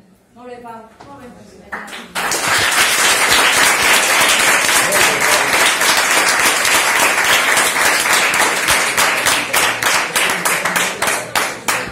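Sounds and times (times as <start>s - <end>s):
audience applauding: 2.0s - 11.9s.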